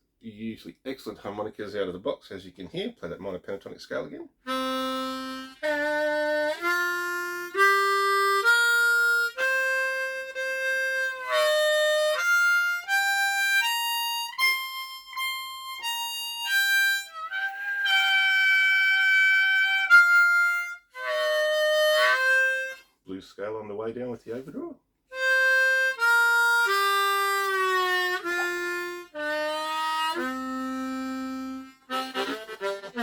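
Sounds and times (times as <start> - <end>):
harmonica playing scale notes: 4.4 - 23.0, 25.1 - 33.0.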